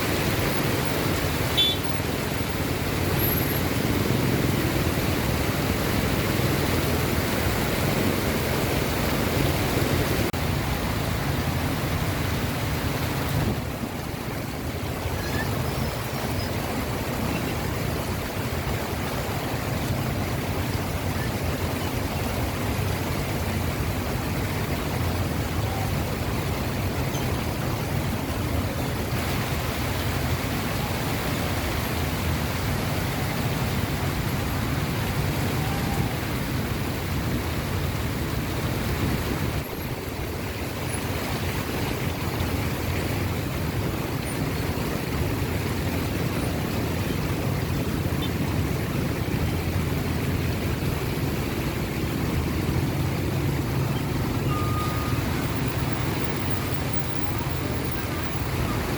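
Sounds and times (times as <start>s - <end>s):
low rumble of street traffic: 0.0s - 58.9s.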